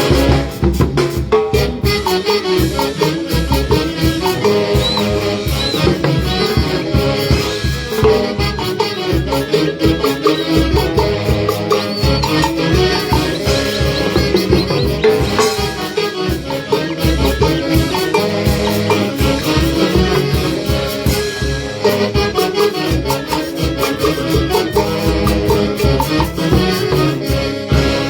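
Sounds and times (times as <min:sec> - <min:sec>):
band playing andean folk music: 0:00.0 - 0:28.0.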